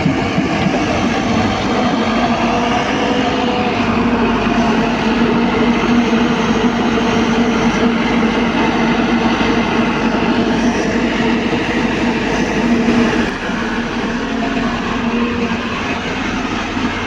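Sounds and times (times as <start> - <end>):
heavy diesel machinery droning: 0.0 - 17.0.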